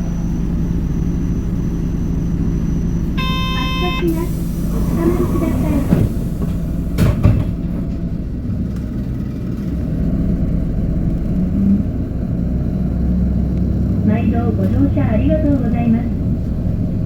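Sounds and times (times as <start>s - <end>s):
diesel bus engine drone: 0.0s - 17.0s
road rumble: 0.0s - 17.0s.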